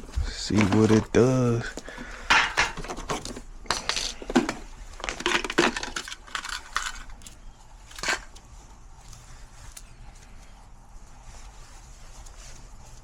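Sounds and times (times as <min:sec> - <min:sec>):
hands scraping and clicking equipment: 0:00.0 - 0:10.6.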